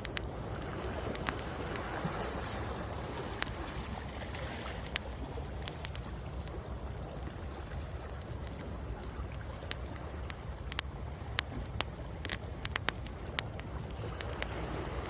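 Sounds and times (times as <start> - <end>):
bonfire crackling and popping: 0.0 - 1.9, 2.8 - 7.4, 8.0 - 15.0
sea waves breaking on shore: 0.0 - 15.0.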